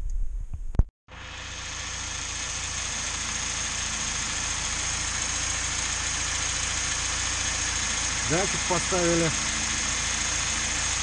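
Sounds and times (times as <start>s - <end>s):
car engine idling: 1.1s - 11.0s.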